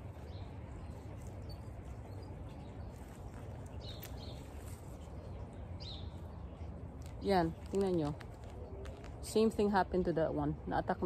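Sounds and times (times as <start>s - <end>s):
steady low rumble: 0.0s - 10.1s.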